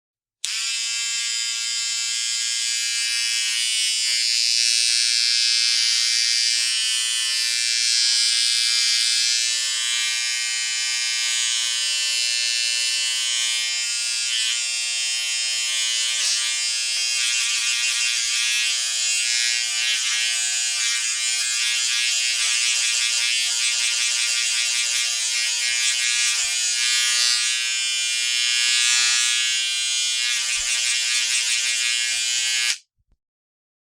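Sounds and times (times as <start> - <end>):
electric shaver buzzing: 0.4 - 32.9.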